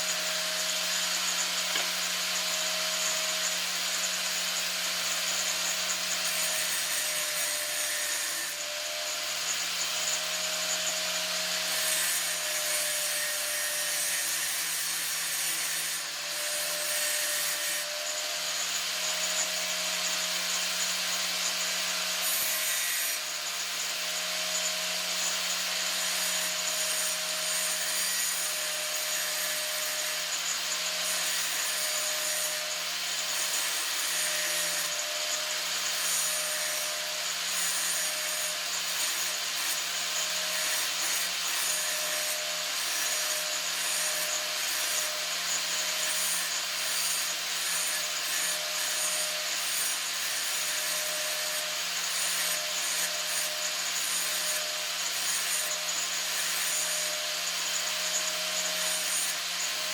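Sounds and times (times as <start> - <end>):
metal rasping: 0.2 - 18.4, 24.4 - 59.9.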